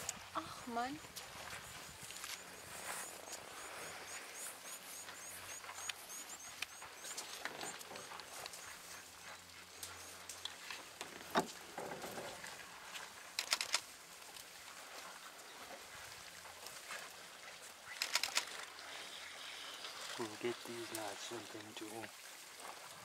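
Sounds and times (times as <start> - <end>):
faint clicks and rustles: 0.0 - 23.0.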